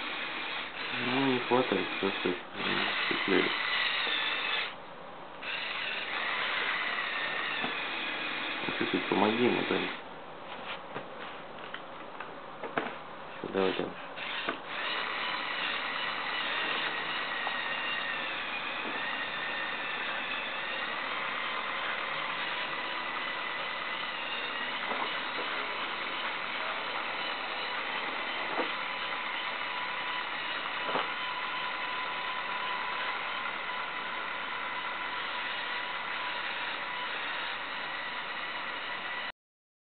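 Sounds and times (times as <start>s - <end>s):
toy truck motors whining: 0.0s - 4.8s, 5.4s - 10.0s, 13.4s - 39.3s.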